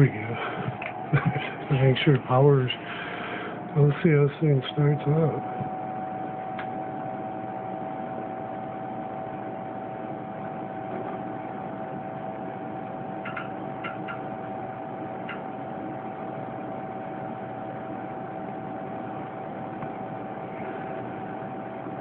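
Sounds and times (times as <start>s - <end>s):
cooling fans whirring: 0.0s - 22.0s.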